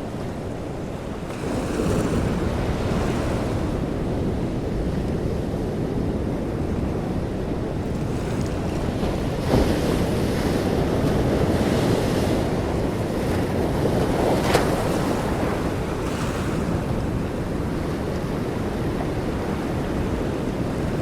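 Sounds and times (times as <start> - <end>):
waves splashing against a boat: 0.0 - 21.0
wind buffeting microphone: 0.0 - 21.0.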